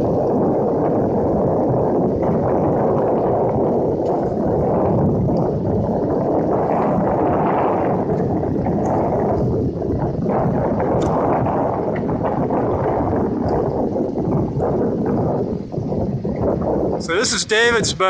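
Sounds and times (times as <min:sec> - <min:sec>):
wind noise: 0:00.0 - 0:18.0.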